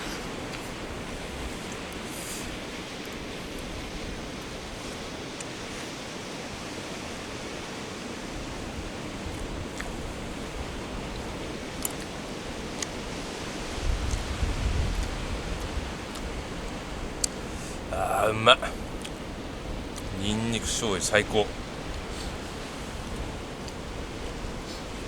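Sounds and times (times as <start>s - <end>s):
sea surf washing: 0.0s - 14.4s, 15.1s - 25.0s.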